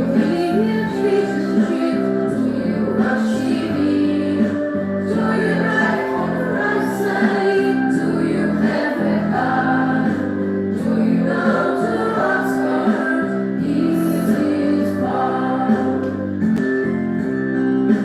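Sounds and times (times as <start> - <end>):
children's song with group singing: 0.0 - 18.0.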